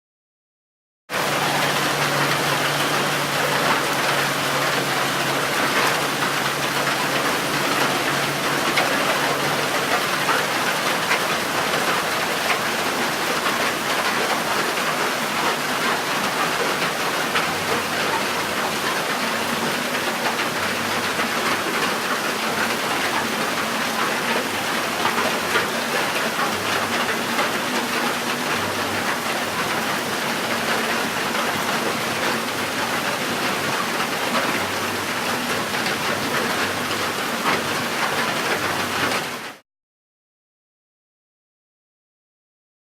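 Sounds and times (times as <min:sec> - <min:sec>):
steady rain falling: 0:01.1 - 0:39.6.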